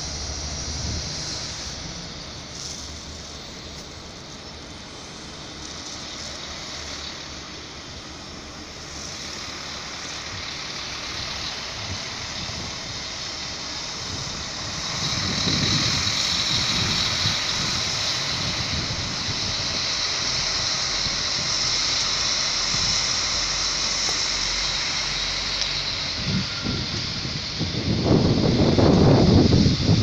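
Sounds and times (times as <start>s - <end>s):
high hiss: 0.0s - 30.0s
train wheels on rails: 0.0s - 30.0s.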